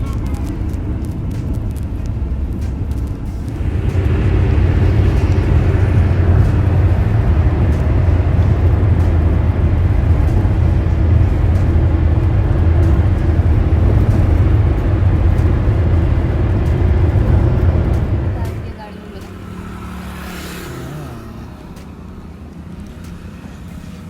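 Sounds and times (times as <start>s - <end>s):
car engine and road rumble: 0.0s - 24.0s
tyre and wind hiss: 0.0s - 24.0s.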